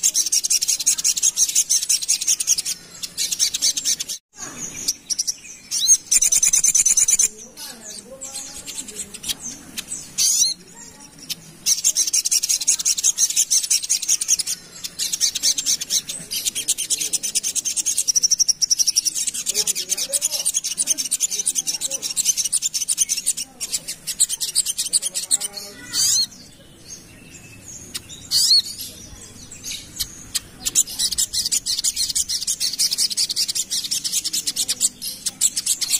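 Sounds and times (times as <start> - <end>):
bird chattering trill: 0.0 - 35.9.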